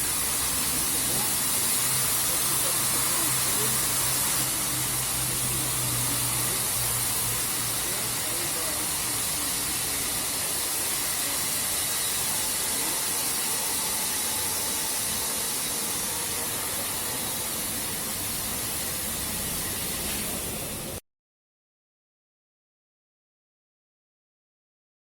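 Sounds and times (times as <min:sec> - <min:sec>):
high-pressure water jets spraying: 0:00.0 - 0:21.0.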